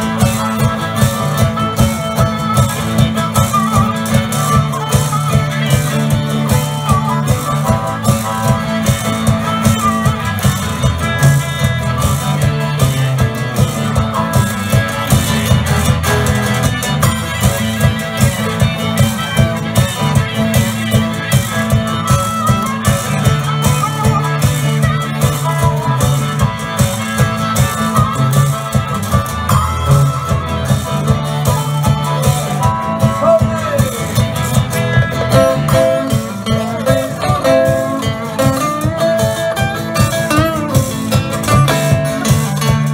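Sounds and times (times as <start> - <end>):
drums keeping a steady beat: 0.0 - 42.9
electric and acoustic guitars: 0.0 - 42.9.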